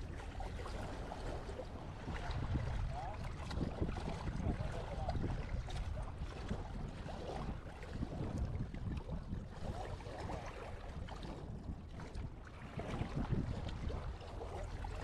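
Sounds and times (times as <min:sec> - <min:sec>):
small waves washing at shore: 0:00.0 - 0:15.0
wind noise on microphone: 0:00.0 - 0:15.0.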